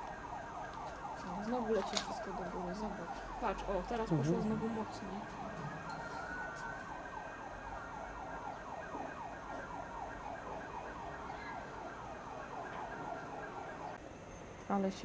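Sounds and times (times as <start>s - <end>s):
siren yelping: 0.0s - 14.0s.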